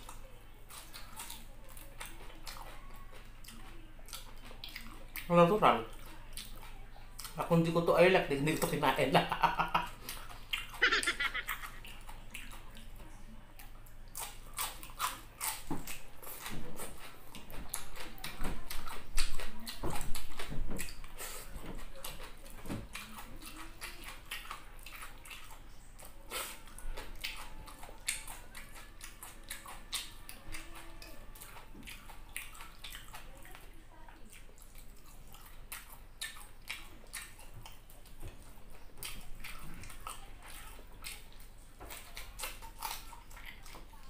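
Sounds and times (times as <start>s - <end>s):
person chewing with lip smacks: 0.0s - 7.6s, 9.6s - 44.0s.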